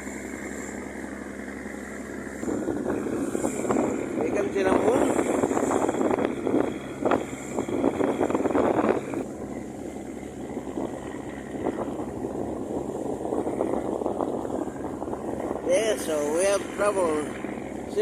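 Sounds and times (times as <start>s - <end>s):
boat engine droning: 0.0s - 18.0s
rushing wind: 0.0s - 18.0s
water noise: 0.0s - 18.0s.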